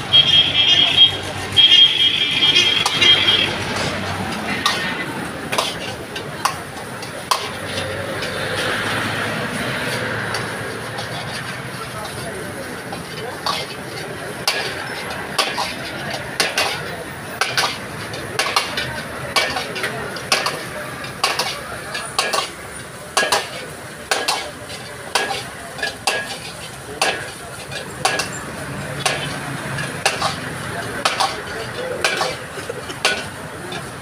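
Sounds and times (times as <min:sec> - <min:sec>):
metal ladle scraping a wok: 0:00.2 - 0:34.0
noodles sizzling: 0:02.6 - 0:34.0.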